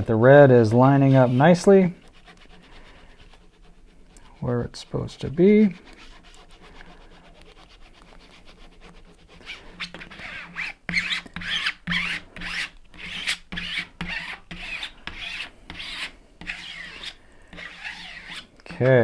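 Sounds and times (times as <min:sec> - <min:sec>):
rubbing strokes on vinyl: 0:00.7 - 0:19.0.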